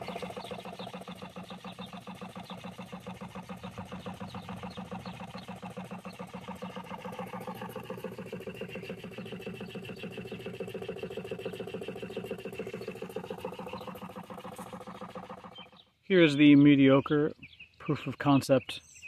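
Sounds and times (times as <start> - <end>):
piston water pump clattering: 0.0 - 15.7
high steady whine: 0.0 - 15.8.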